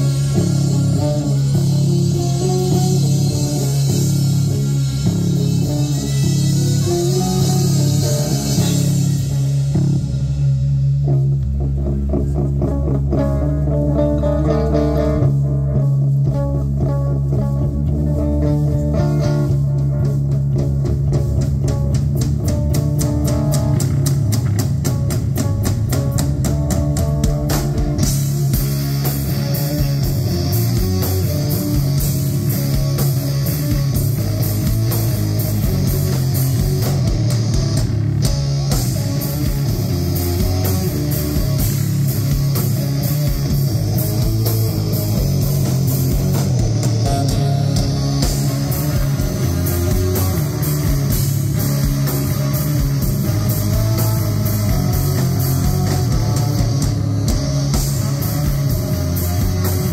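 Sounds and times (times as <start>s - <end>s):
live instrumental rock band: 0.0s - 59.9s.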